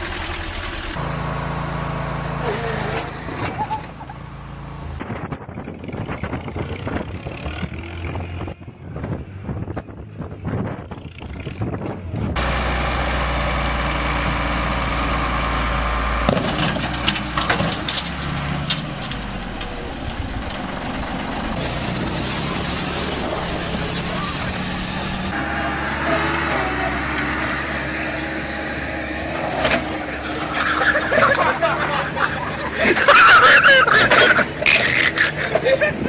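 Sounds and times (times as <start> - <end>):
tractor engines running hard: 0.0 - 36.0.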